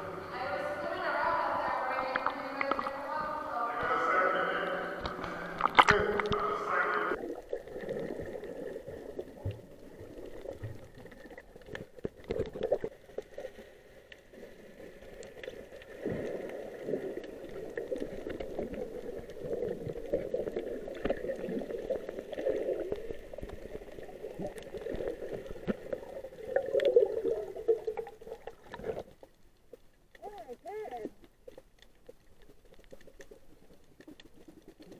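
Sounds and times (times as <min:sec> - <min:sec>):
underwater gurgling and bubbling: 0:00.3 - 0:29.3.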